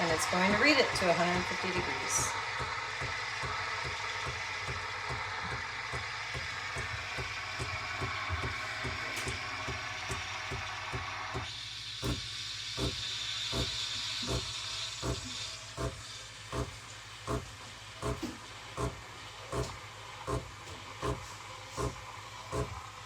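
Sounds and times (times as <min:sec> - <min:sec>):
steam wand hissing: 0:00.0 - 0:23.0.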